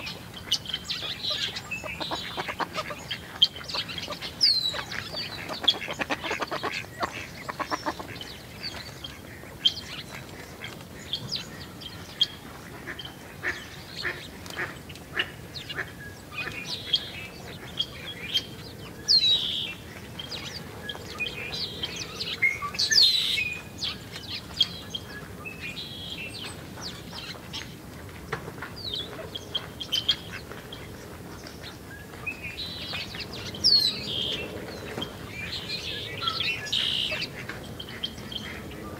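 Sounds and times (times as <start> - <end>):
sparrows chirping: 0.0 - 12.4, 13.0 - 27.7, 28.7 - 38.9.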